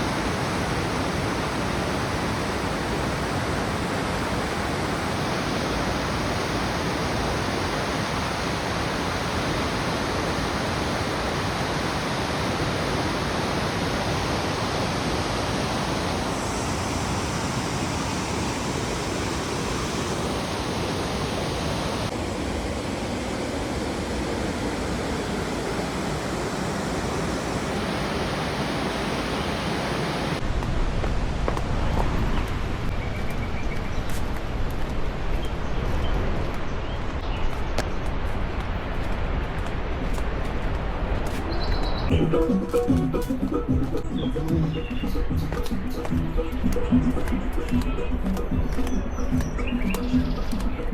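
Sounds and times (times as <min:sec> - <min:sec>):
waterfall roaring: 0:00.0 - 0:33.0, 0:33.8 - 0:50.9.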